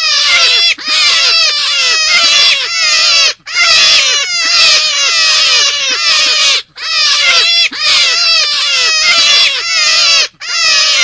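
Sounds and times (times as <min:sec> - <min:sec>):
rabbit lure call squealing: 0:00.0 - 0:11.0.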